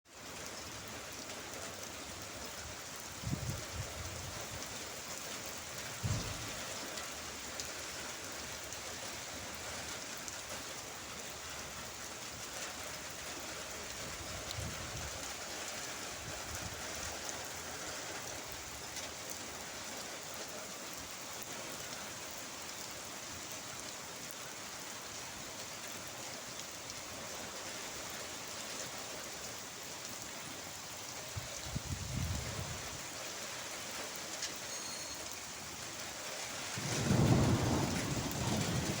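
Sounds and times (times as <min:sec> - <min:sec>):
rain falling: 0:00.1 - 0:39.0.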